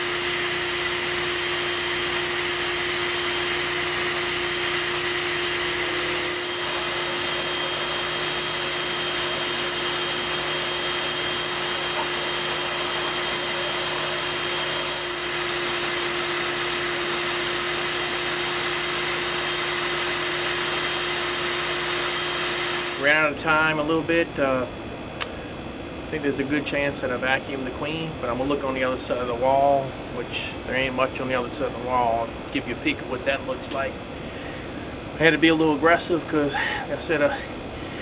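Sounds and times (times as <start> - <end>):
vacuum motor drone: 0.0 - 38.0.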